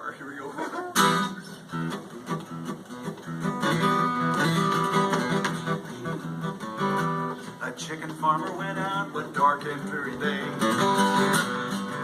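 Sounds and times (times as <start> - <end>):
strummed guitar chords: 0.9 - 12.0.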